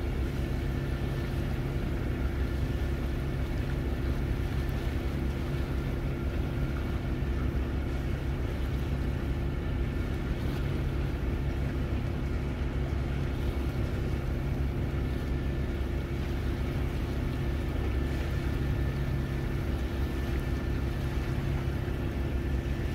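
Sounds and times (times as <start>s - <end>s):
boat engine drone: 0.0s - 22.9s.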